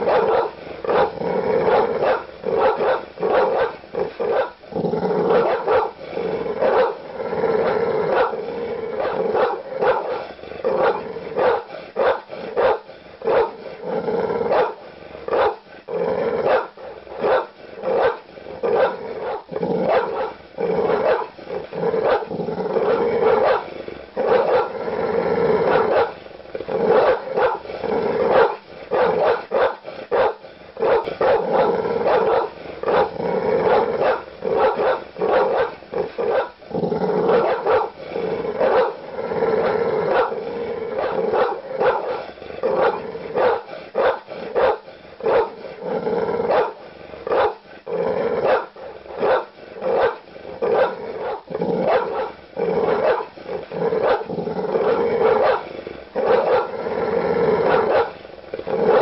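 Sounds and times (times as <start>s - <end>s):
dogs barking aggressively: 0.0s - 59.0s
dogs growling: 0.0s - 59.0s.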